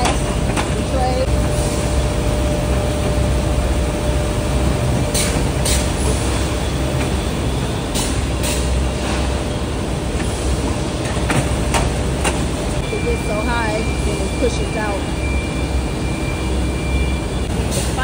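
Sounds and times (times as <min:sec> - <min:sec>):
machinery rumbling: 0:00.0 - 0:18.0.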